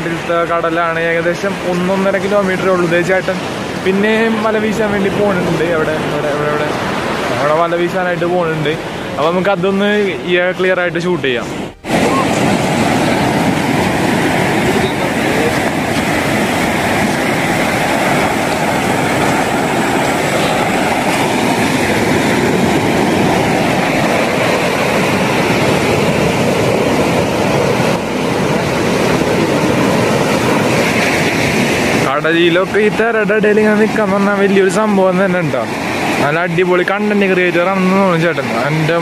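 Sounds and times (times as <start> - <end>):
waves breaking on shore: 0.0 - 39.0.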